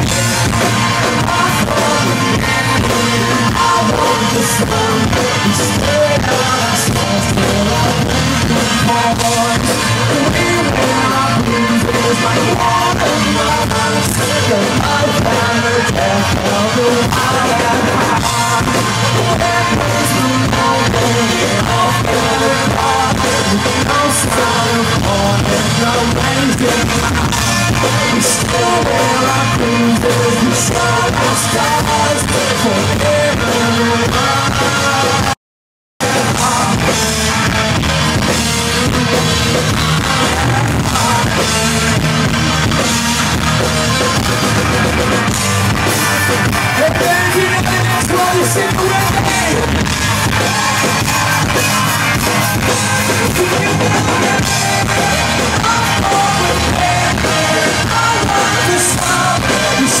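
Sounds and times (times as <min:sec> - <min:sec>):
drum kit: 0:00.0 - 0:35.4, 0:36.0 - 1:00.0
guitars: 0:00.0 - 0:35.4, 0:36.0 - 1:00.0
rock band playing: 0:00.0 - 0:35.4, 0:36.0 - 1:00.0.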